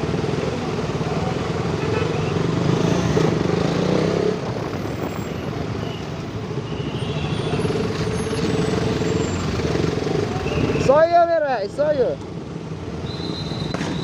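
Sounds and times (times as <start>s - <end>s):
road and wind noise: 0.0s - 14.0s
surrounding traffic: 0.0s - 14.0s.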